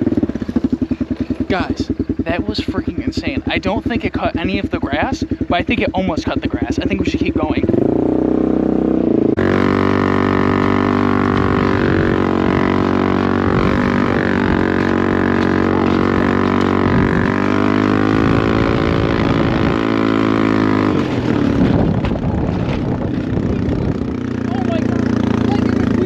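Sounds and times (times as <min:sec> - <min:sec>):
small engine droning at high revs: 0:00.0 - 0:26.0.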